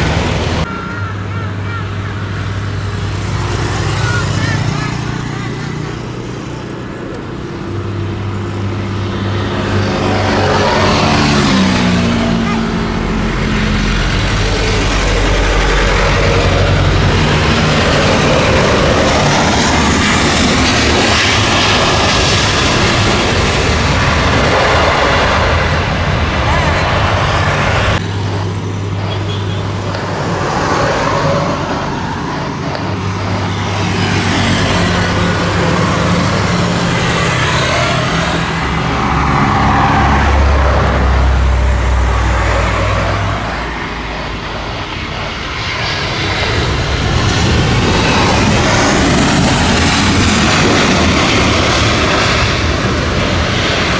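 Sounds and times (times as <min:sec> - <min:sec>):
jet engines at high thrust: 0:00.0 - 0:53.9.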